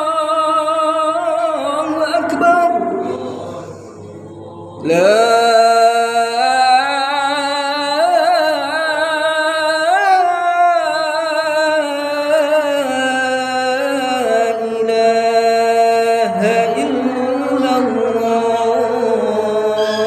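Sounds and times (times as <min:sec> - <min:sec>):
man chanting call to prayer: 0:00.0 - 0:20.0.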